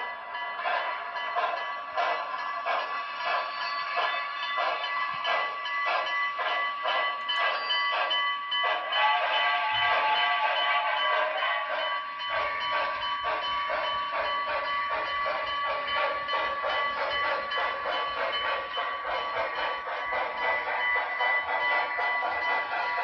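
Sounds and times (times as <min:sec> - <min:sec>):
steam locomotive chuffing from speaker: 0:00.0 - 0:23.0.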